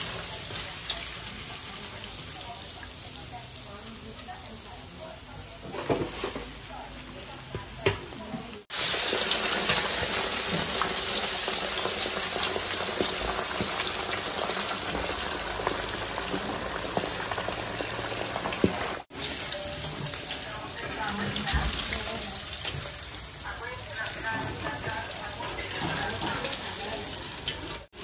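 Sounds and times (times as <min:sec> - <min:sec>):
fish sizzling in hot oil: 0:00.0 - 0:28.0.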